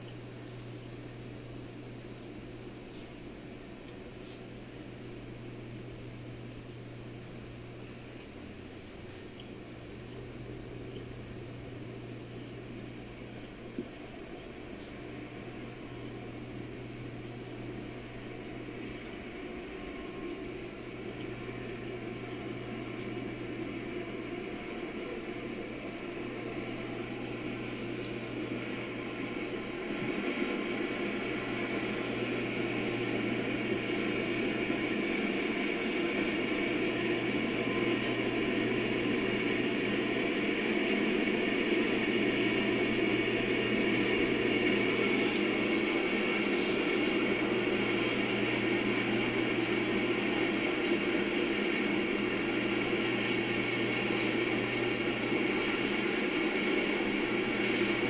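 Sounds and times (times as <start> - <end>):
diesel locomotives: 0.0 - 58.0.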